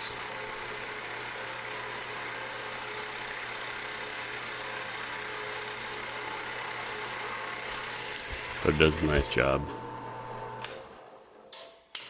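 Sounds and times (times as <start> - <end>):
drill press motor humming: 0.0 - 11.0.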